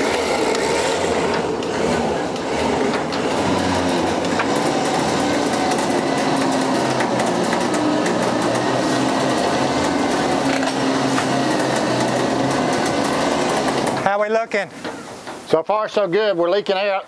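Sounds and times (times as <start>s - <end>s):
winch motor running under load: 0.0s - 15.0s.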